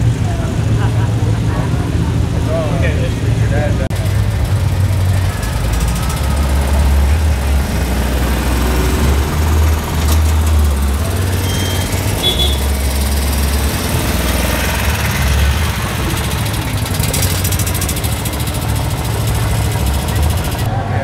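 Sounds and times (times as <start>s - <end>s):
small car engine rumbling past: 0.0s - 21.0s.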